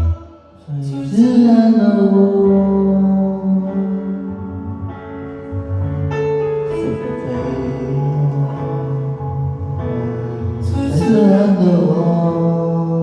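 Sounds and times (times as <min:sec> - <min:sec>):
keyboard chords over bass: 0:00.0 - 0:13.0.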